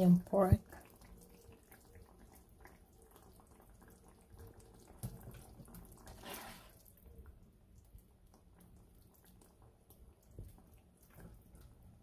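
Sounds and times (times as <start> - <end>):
sauce stirred with spatula in wok: 0.6 - 12.0.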